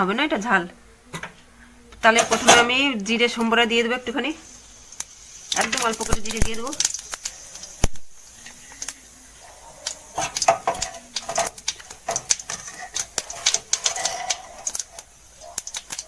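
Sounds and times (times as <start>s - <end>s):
faint oil sizzle: 0.0s - 16.0s
seeds crackling and popping in oil: 2.0s - 16.0s.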